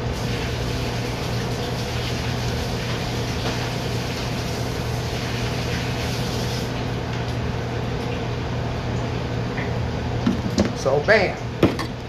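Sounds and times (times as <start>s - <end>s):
exhaust hood fan running: 0.0s - 12.0s.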